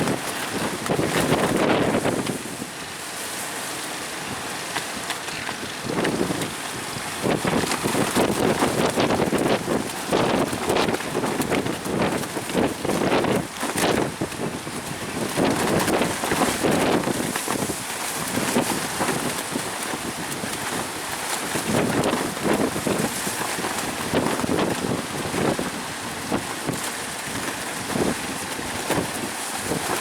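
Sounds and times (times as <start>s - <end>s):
wind buffeting the microphone: 0.0s - 3.3s, 4.1s - 30.0s
high surf rushing: 0.0s - 30.0s.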